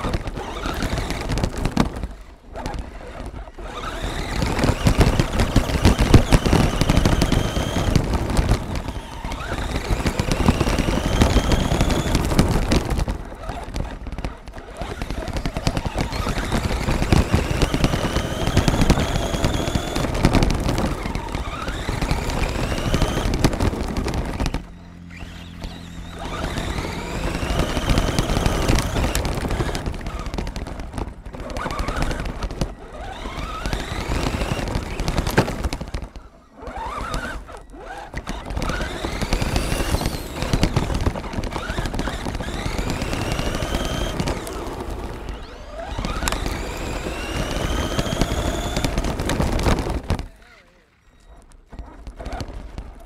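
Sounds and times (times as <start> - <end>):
electric motor whining: 0.0 - 50.3
gravel crunching against chassis: 0.0 - 53.0.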